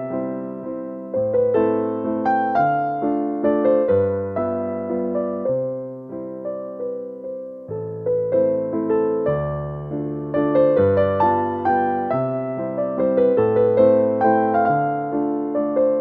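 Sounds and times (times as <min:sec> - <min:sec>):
keyboard piano music: 0:00.0 - 0:16.0.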